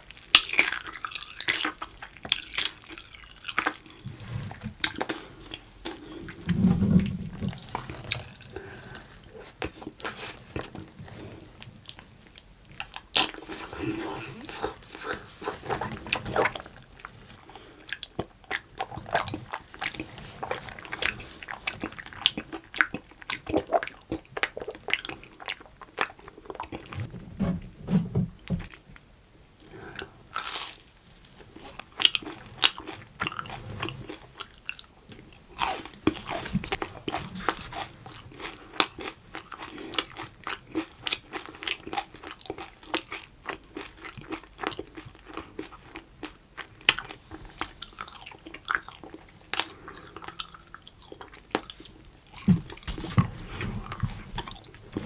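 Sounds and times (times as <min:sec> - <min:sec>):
person chewing crunchy food: 0:00.2 - 0:27.1, 0:29.6 - 0:55.0.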